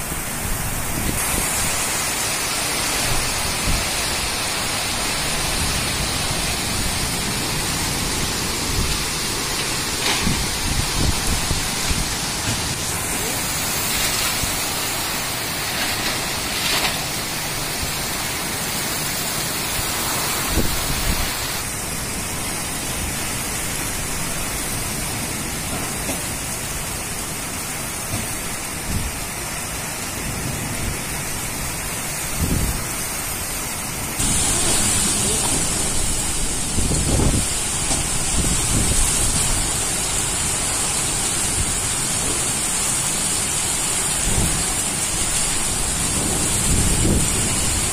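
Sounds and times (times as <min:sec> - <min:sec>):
heavy rain pouring: 0:00.0 - 0:47.9
wind gusts: 0:00.0 - 0:47.9.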